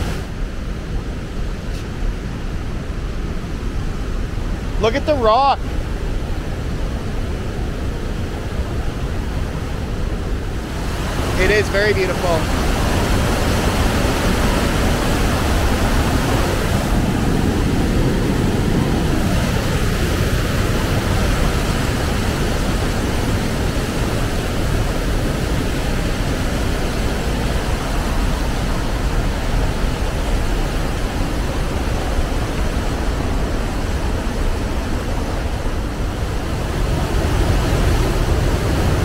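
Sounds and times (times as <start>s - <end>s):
waterfall rushing: 1.5s - 39.0s.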